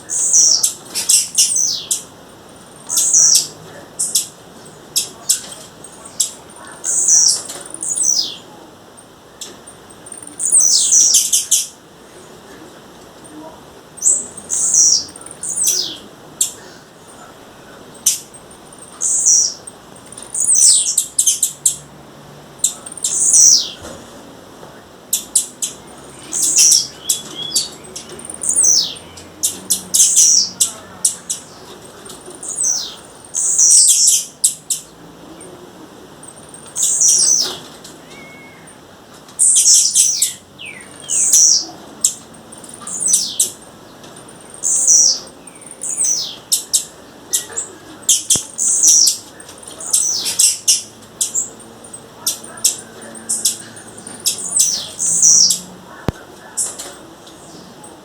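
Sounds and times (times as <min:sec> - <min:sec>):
bird calling: 0:00.0 - 0:08.7, 0:09.4 - 0:12.7, 0:13.3 - 0:21.9, 0:22.6 - 0:24.1, 0:25.1 - 0:58.0.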